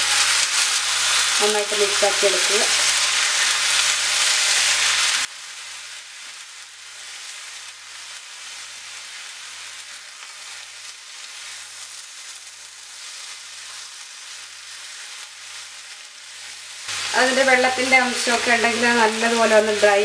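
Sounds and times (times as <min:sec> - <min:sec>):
food frying in oil: 0:00.0 - 0:20.0.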